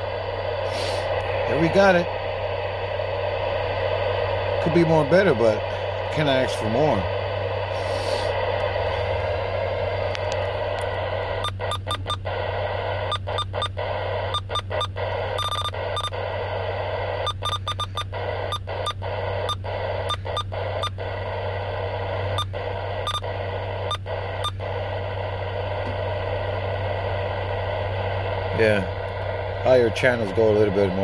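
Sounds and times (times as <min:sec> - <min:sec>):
low steady hum: 0:00.0 - 0:31.0
radio static hiss: 0:00.0 - 0:31.0.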